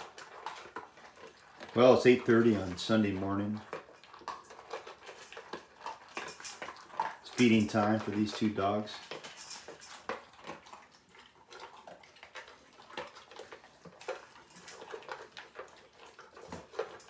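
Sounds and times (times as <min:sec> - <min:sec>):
dry dog food clinking in bowls: 0:00.0 - 0:17.0.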